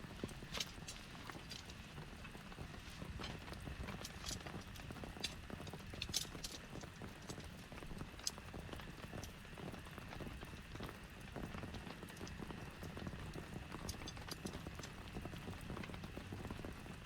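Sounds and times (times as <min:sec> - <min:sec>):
heavy rain patter: 0:00.0 - 0:17.0.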